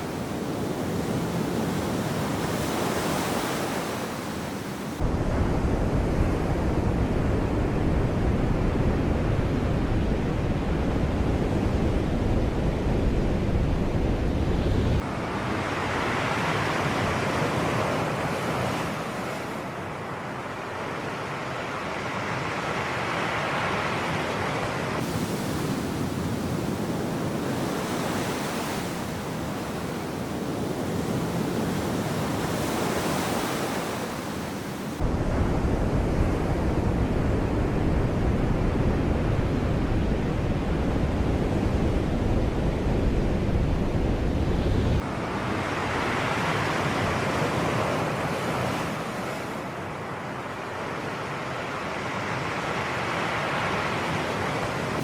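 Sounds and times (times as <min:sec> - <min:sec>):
wind rumble on microphone: 0:00.0 - 0:20.0, 0:23.6 - 0:49.7
sea waves washing ashore: 0:00.0 - 0:55.0.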